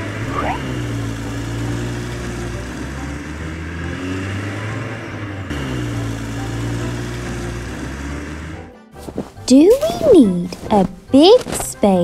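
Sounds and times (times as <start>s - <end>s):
truck engine running: 0.0s - 11.3s.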